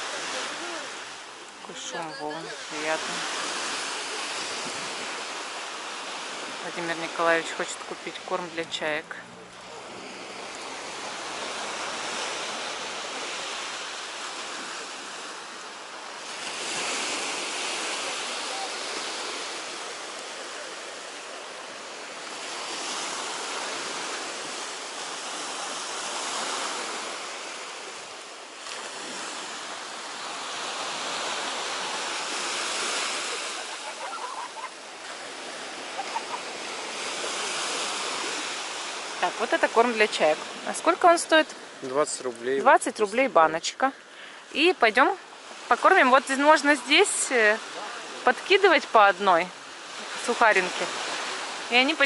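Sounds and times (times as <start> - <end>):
waves washing onto shore: 0.0 - 52.0.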